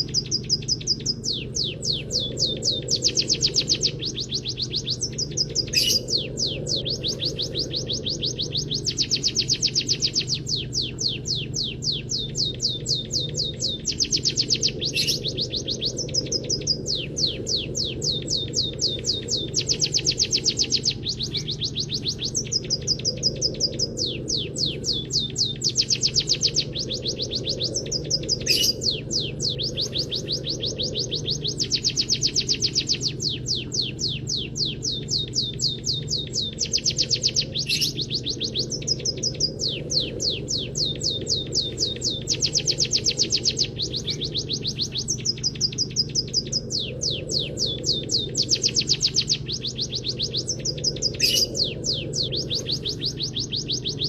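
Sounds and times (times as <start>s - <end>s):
bird song with fast trills: 0.0s - 54.0s
steady low hum: 0.0s - 54.0s.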